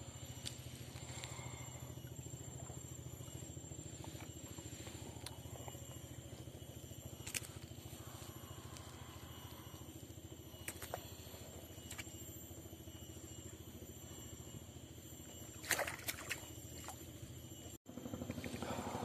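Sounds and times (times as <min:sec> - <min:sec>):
low motor drone: 0:00.0 - 0:19.0.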